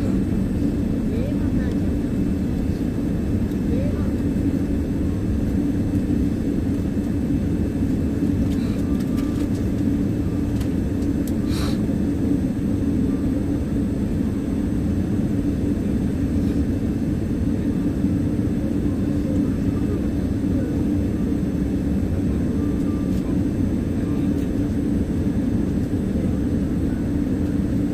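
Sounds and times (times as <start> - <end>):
airliner cabin drone: 0.0 - 27.9.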